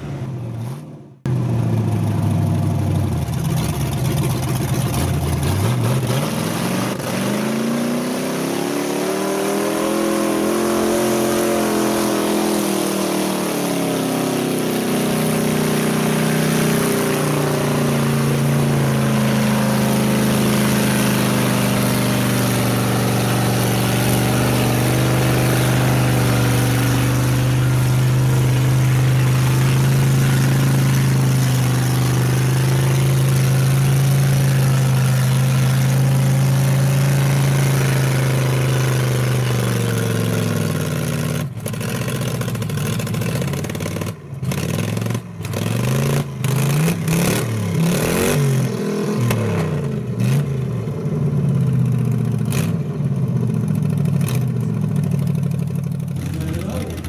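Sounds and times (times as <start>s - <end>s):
pickup engine revving: 0.0s - 51.4s, 54.1s - 57.0s.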